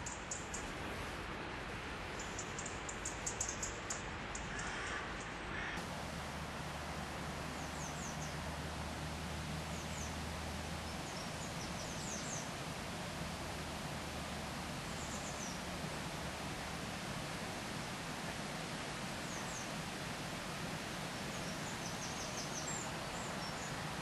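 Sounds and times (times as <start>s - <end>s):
flowing stream: 0.0s - 24.0s.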